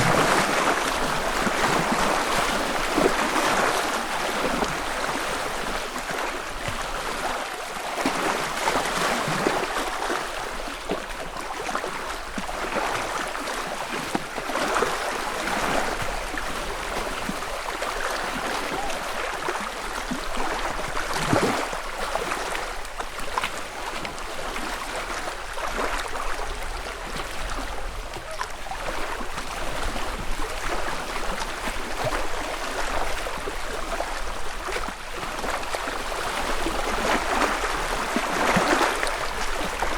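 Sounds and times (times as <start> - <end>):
small water splashes: 0.0 - 39.9
wavelets lapping against shore: 0.0 - 39.9.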